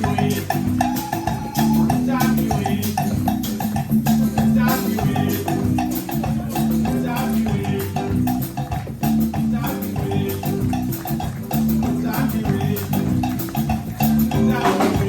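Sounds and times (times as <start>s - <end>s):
shakers and drums: 0.0s - 15.0s.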